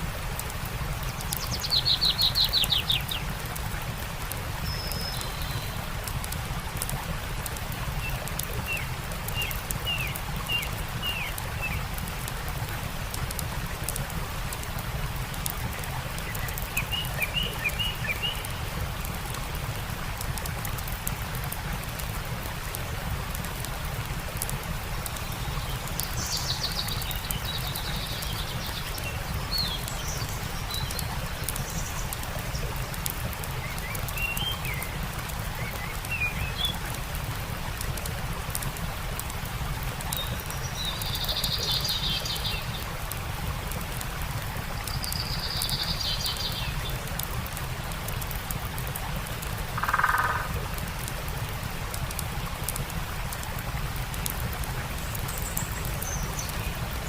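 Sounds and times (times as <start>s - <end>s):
campfire crackling: 0.0s - 57.0s
stream rushing: 0.0s - 57.0s.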